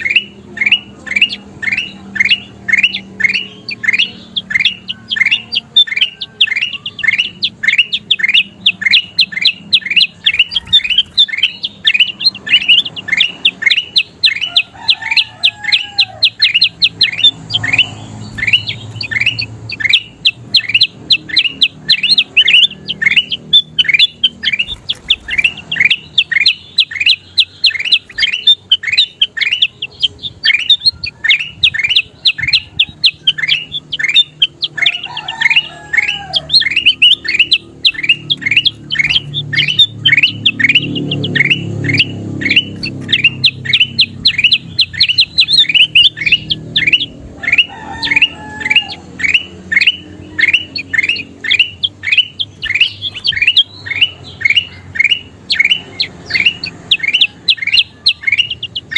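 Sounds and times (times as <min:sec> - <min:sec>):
bird chirping: 0:00.0 - 0:58.9.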